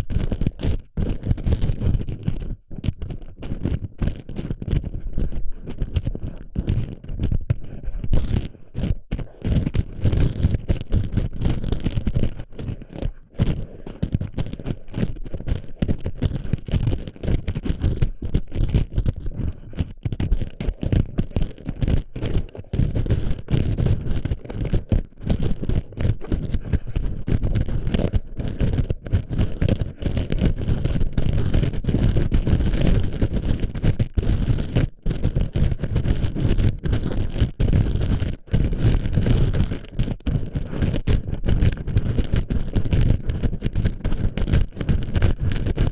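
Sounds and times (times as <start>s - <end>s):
plastic pellets rattling on microphone: 8.2s - 45.9s.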